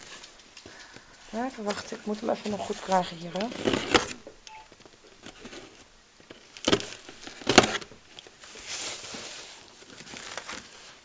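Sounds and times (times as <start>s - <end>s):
cardboard and tape rustling: 0.0s - 11.0s.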